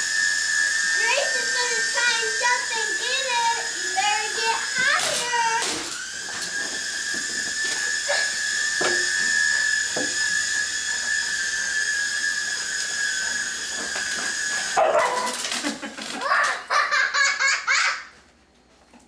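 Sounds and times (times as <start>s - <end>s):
toy helicopter motor whining: 0.0s - 18.1s.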